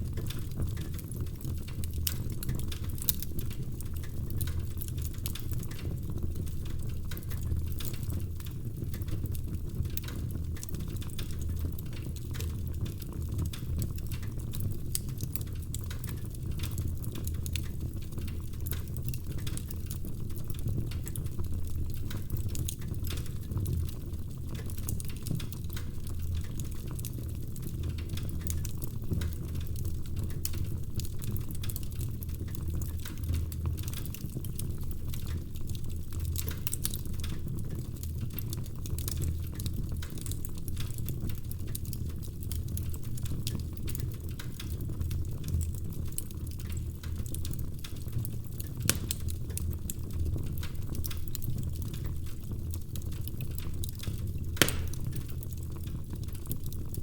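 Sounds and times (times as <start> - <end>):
burning logs crackling and popping: 0.0 - 57.0
fire flames rumbling: 0.0 - 57.0.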